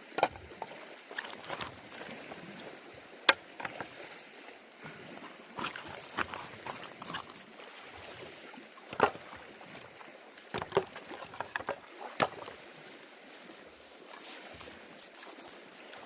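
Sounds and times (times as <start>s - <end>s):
light water splashes: 0.0s - 16.0s.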